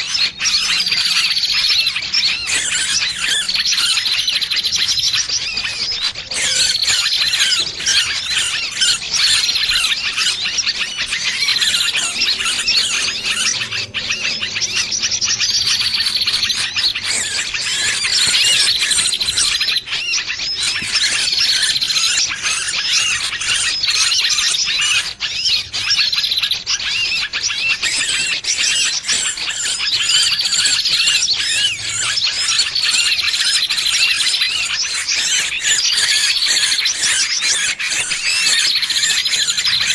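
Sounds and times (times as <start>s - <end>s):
bird distress squeals: 0.0s - 39.9s.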